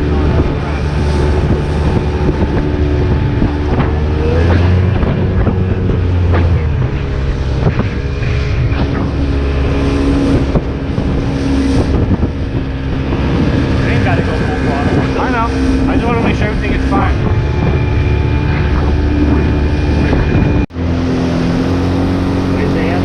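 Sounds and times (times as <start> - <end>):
outboard motor running hard: 0.0 - 23.0
wind on microphone: 0.0 - 23.0.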